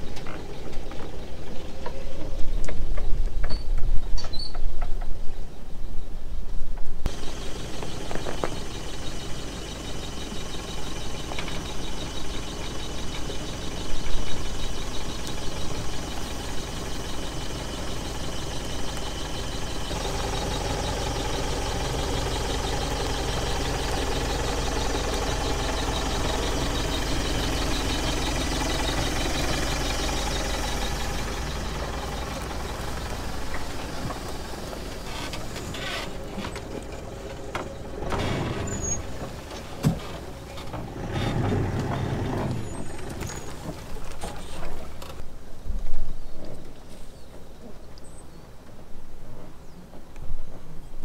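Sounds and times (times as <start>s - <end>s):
pickup engine running slowly: 0.0s - 3.4s, 7.0s - 45.3s.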